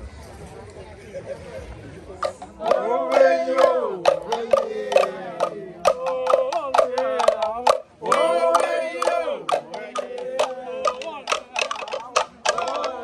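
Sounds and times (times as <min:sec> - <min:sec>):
sharp claps or knocks: 0:02.2 - 0:13.0
voices singing together: 0:02.2 - 0:13.0.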